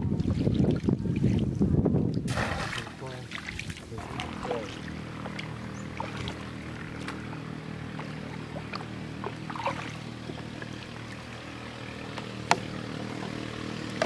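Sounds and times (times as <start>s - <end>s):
motor running steadily: 0.0s - 14.0s.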